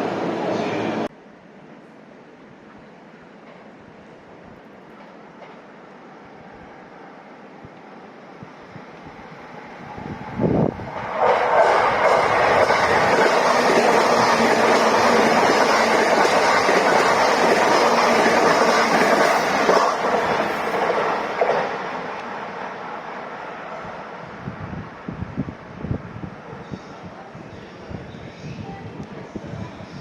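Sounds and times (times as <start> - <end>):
electric train passing: 0.0 - 1.9, 4.1 - 28.0.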